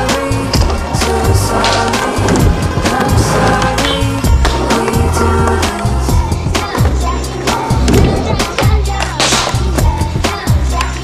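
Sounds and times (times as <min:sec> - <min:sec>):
music with thudding drum beat: 0:00.0 - 0:11.0.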